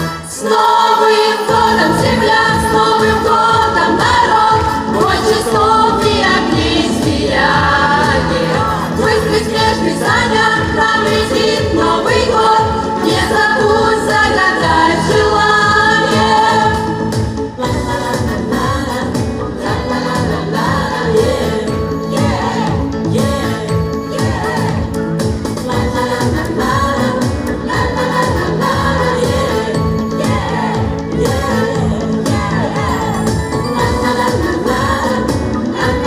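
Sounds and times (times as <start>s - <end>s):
voices singing long notes: 0.0s - 25.0s, 25.7s - 36.0s
pop song with steady beat: 0.0s - 36.0s.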